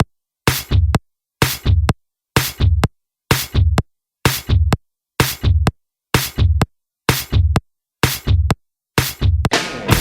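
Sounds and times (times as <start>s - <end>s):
looped drum hit and bass: 0.5s - 10.0s.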